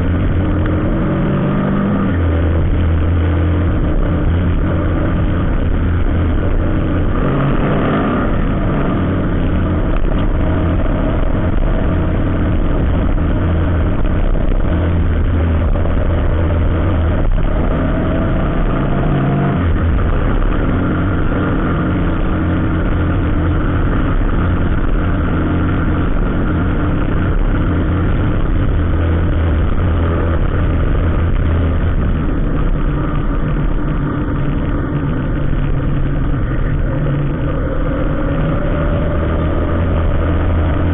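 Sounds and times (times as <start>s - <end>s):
engine pitch rising: 0.0s - 40.9s
vehicle engines droning: 0.0s - 40.9s.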